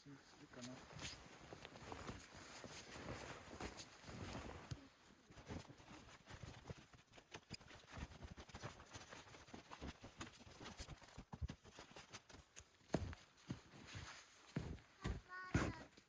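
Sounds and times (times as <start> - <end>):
soft crunches and thuds: 0.6 - 16.0.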